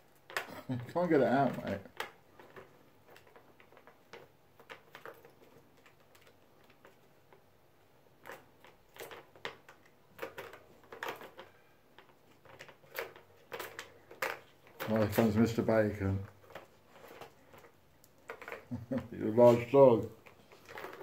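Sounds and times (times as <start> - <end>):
cat toy balls clicking and rattling: 0.0 - 7.5, 8.1 - 21.0.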